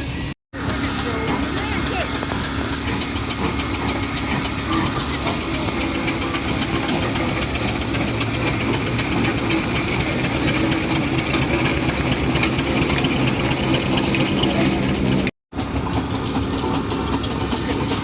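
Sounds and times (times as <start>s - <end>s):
heavy engine running: 0.0s - 18.0s.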